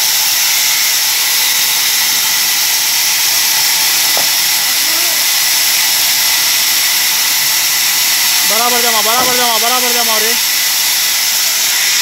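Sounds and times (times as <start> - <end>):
band saw cutting wood: 0.0 - 12.0.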